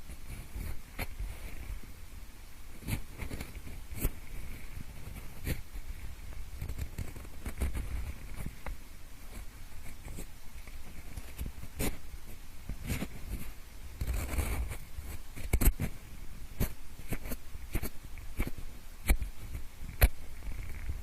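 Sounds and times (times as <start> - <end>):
pencil scraping and rustling: 0.0 - 1.8, 2.7 - 21.0.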